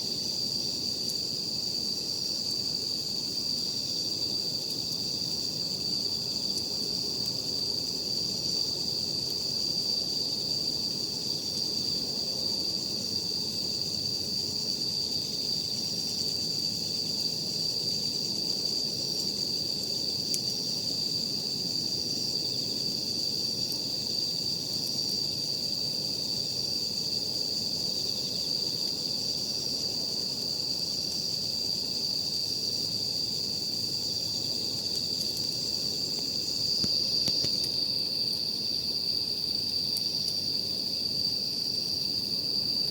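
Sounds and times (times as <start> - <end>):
insects chirping: 0.0 - 42.9.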